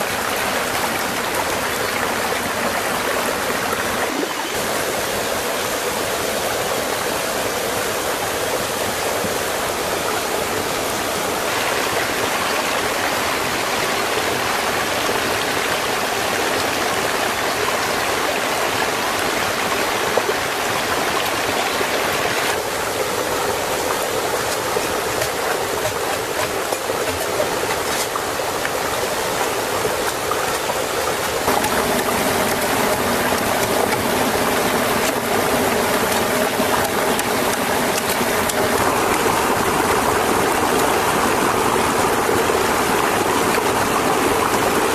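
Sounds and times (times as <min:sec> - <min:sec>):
stream splashing over rocks: 0:00.0 - 0:44.9.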